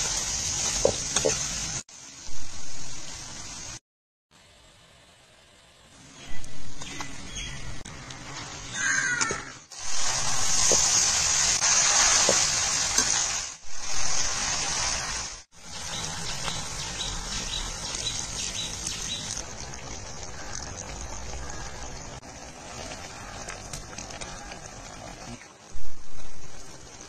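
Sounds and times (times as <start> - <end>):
chicken sizzling in hot oil: 0.0 - 3.8, 8.2 - 27.0.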